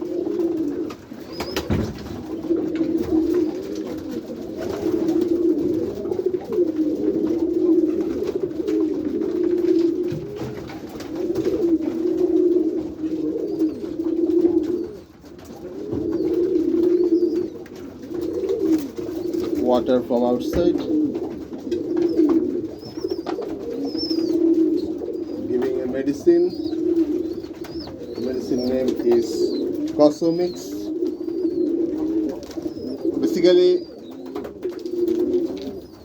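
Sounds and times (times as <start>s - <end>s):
pigeons cooing: 0.0s - 36.0s.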